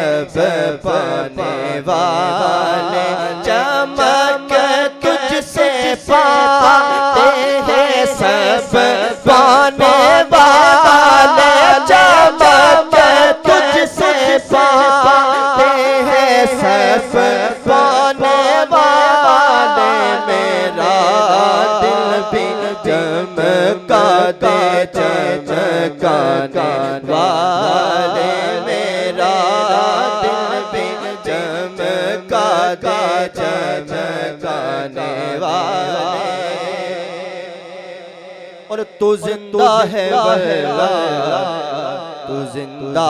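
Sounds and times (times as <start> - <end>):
man singing with vibrato: 0.0 - 43.0.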